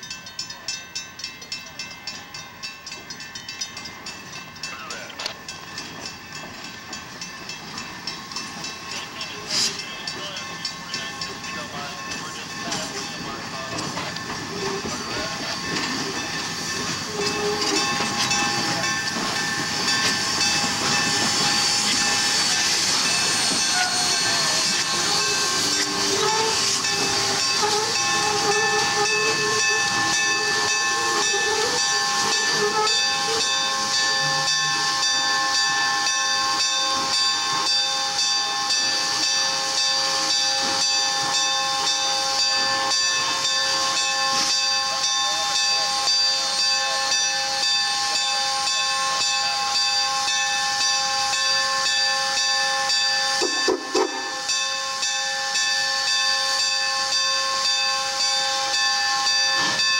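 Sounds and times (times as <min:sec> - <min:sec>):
steam locomotive hissing steam: 0:03.7 - 0:59.9.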